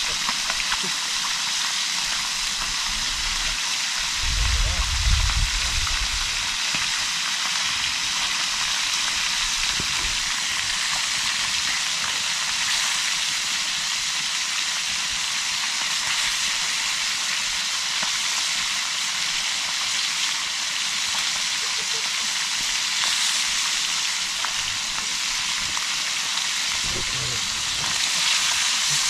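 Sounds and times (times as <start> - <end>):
fish sizzling in a pot: 0.0 - 29.0.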